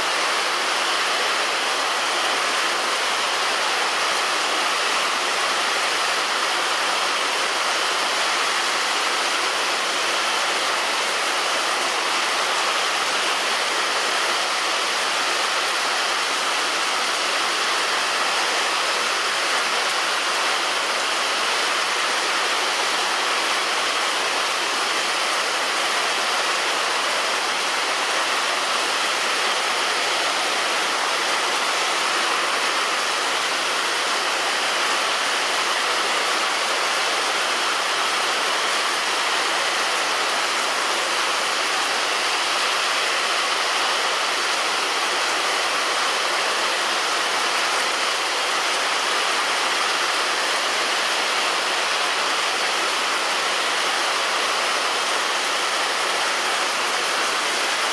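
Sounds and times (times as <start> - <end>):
heavy rain on a roof: 0.0 - 57.9.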